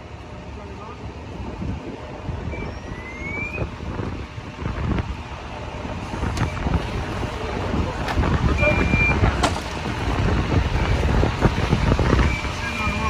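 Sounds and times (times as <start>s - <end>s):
street traffic rumble: 0.0s - 13.0s
wind buffeting microphone: 0.0s - 13.0s.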